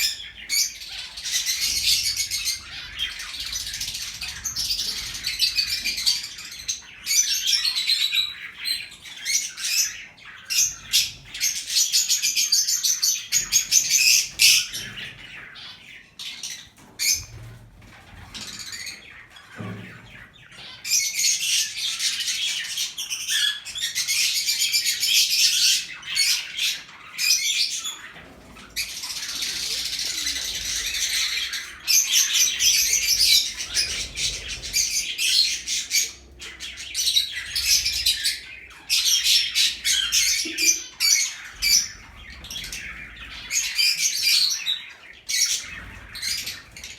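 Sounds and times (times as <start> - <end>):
caged birds chattering and chirping: 0.0 - 46.9.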